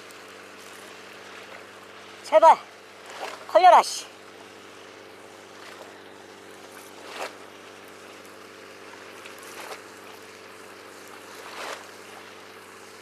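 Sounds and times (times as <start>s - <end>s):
waves lapping against a quay: 0.0s - 13.0s.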